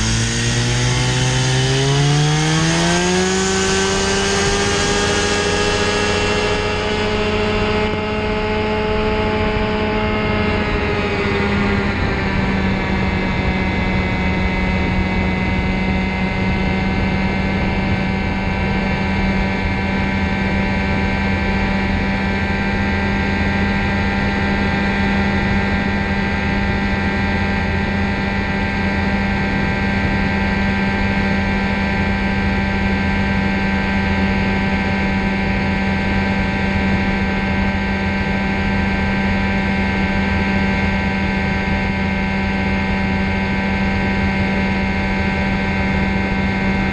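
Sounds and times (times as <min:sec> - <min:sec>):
engine and propeller droning: 0:00.0 - 0:46.9.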